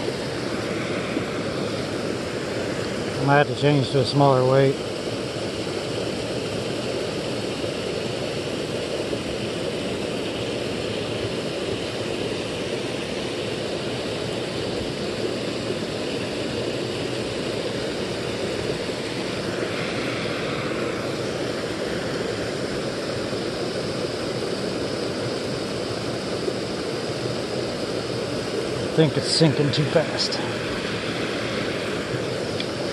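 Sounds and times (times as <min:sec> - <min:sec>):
creek rushing over waterfall: 0:00.0 - 0:32.9.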